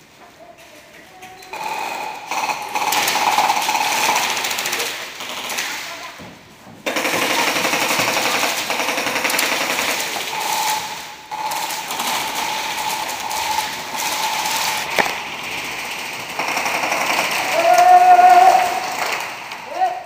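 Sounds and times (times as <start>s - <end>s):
airsoft guns firing bursts: 1.5s - 6.2s, 6.8s - 19.7s.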